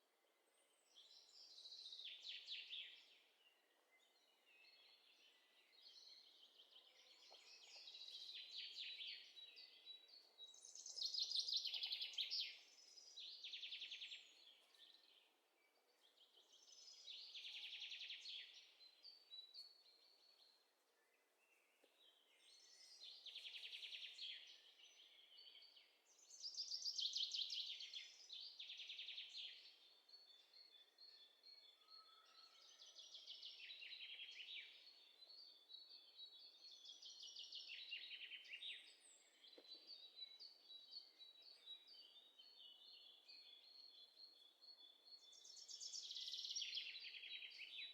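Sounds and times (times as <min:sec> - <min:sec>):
faint trilled bird song: 0:00.0 - 0:47.9.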